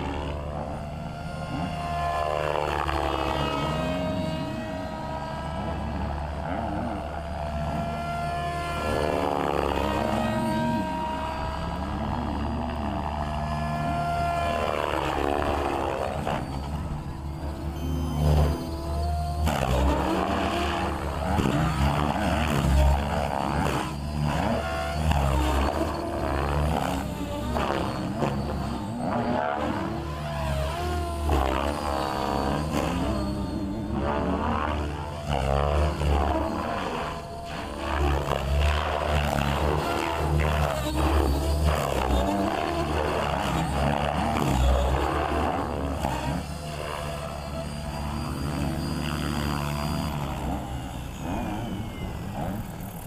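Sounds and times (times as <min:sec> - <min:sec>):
rc helicopter motor whining: 0:00.0 - 0:53.0.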